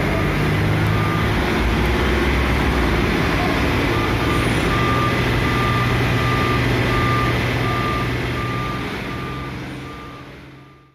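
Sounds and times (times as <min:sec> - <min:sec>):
diesel engine running: 0:00.0 - 0:10.9
truck reversing alarm beeping: 0:00.0 - 0:10.9.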